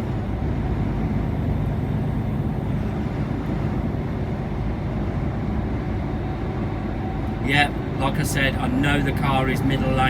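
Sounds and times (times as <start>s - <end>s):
lorry road and engine rumble: 0.0s - 10.0s.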